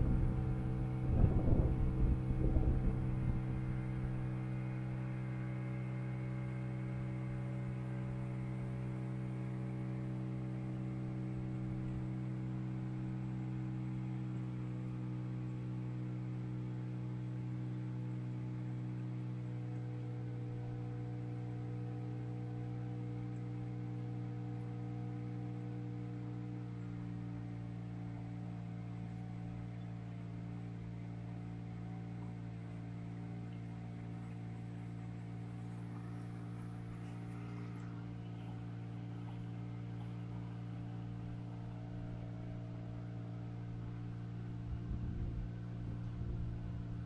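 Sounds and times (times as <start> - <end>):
boat motor humming: 0.0 - 47.0.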